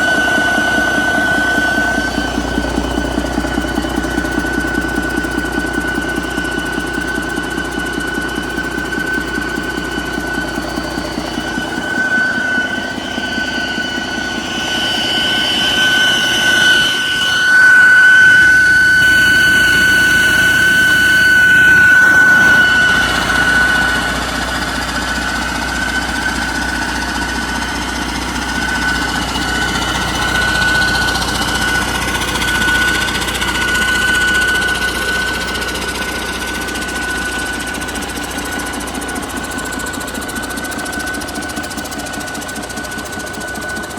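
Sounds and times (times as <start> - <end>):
diesel engine running: 0.0 - 43.9
high whine: 0.0 - 43.9.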